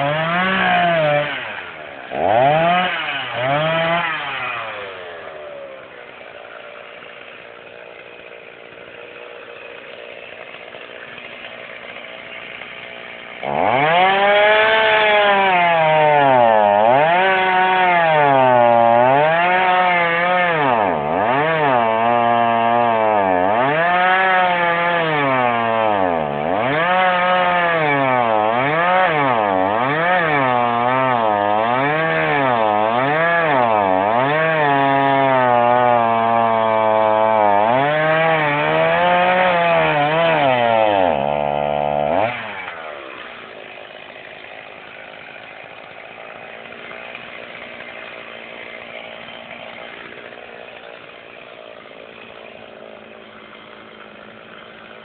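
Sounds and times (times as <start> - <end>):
chainsaw cutting log: 0.0 - 55.0
chainsaw revving and idling: 0.0 - 55.0.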